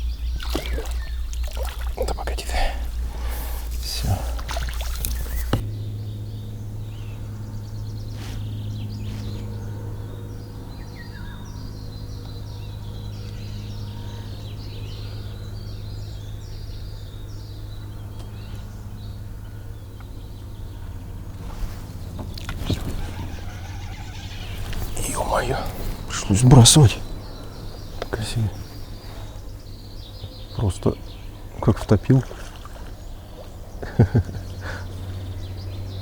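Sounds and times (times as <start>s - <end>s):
small birds chirping: 0.0s - 36.0s
steady low hum: 0.0s - 36.0s.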